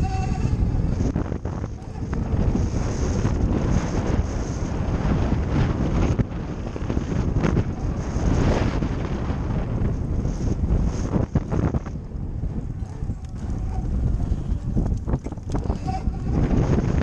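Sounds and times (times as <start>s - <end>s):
tyres on rough dirt trail: 0.0s - 17.0s
wind buffeting microphone: 0.0s - 17.0s.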